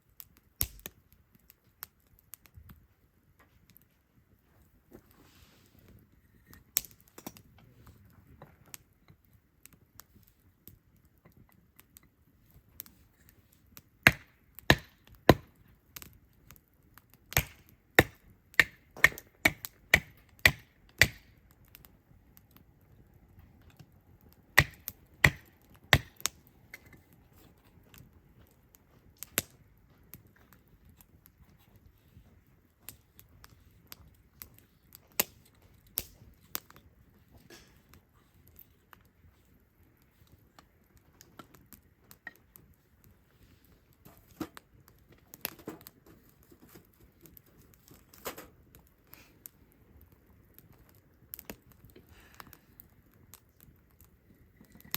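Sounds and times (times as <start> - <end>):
faint low crackle: 0.0 - 54.9
firewood cracking: 0.0 - 54.9.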